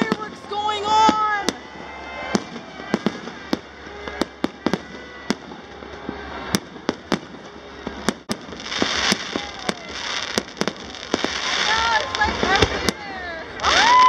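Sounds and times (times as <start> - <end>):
fireworks sharp bangs: 0.0 - 14.0
rushing crackling hiss: 0.0 - 14.0.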